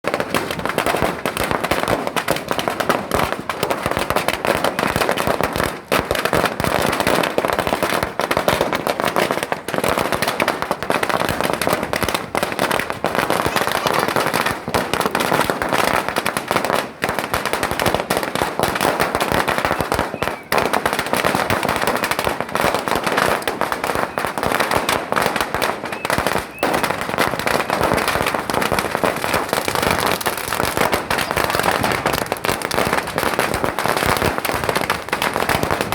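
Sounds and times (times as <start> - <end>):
firecrackers crackling: 0.0 - 35.9.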